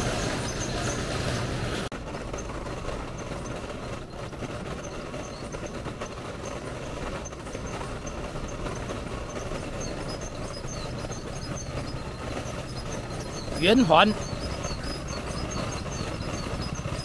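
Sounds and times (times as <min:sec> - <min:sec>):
cart wheels rattling on pavement: 0:00.0 - 0:17.0.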